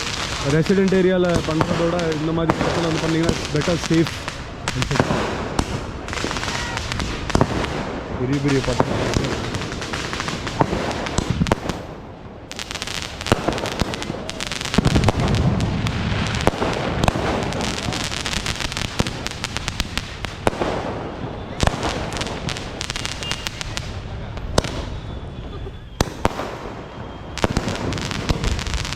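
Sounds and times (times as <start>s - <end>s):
firecrackers popping: 0.0s - 28.9s
murmur of crowd voices: 0.0s - 28.9s.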